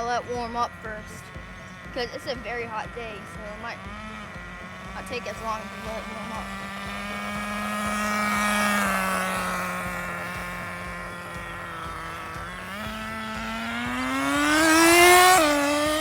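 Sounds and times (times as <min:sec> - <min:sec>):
rc car nitro engine revving: 0:00.0 - 0:16.0.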